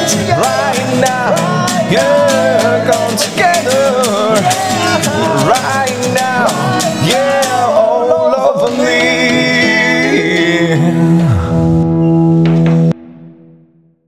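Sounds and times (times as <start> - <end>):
acoustic guitar strumming: 0.0 - 13.5.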